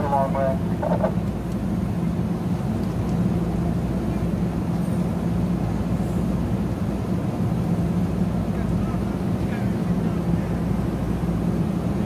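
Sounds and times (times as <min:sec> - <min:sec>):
stationary train humming: 0:00.0 - 0:12.0.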